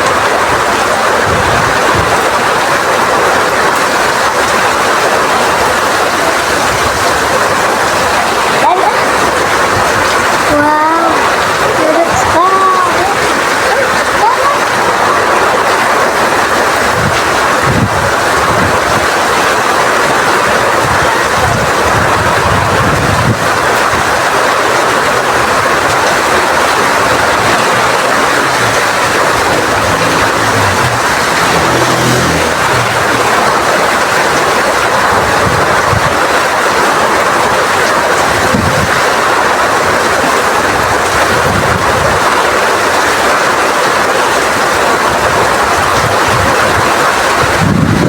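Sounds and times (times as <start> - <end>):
gusty low rumbling: 0.0 - 39.1, 45.2 - 48.0
heavy rain in strong wind: 0.0 - 48.0.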